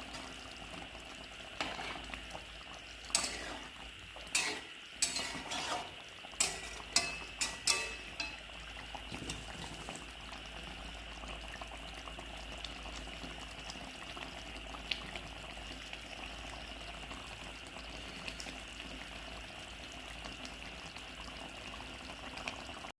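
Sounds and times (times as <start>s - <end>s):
food simmering in a pan: 0.0s - 22.9s.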